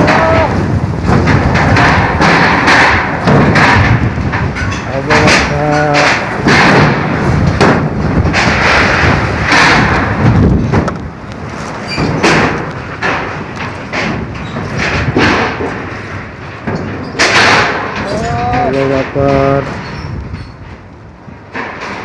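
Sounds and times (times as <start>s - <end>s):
sharp thumps: 0.0s - 20.8s
storm wind gusting on microphone: 0.0s - 22.0s.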